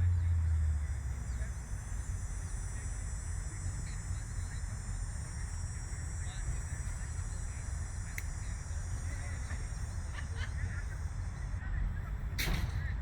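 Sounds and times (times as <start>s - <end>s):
low outdoor rumble: 0.0s - 13.0s
faint distant voices: 0.1s - 13.0s.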